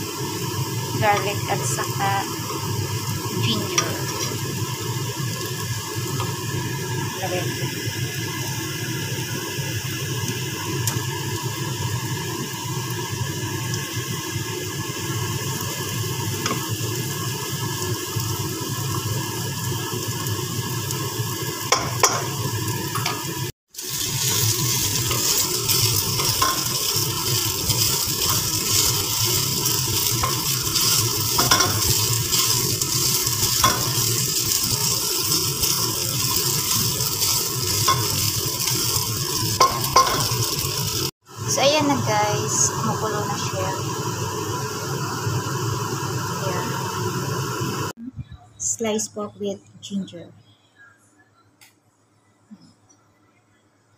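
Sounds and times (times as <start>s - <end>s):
food sizzling in oil: 0.0s - 48.0s.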